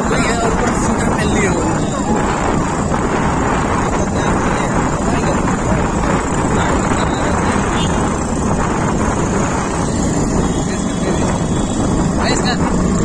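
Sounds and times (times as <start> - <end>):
motorcycle engine cruising: 0.0 - 13.0
wind buffeting microphone: 0.0 - 13.0.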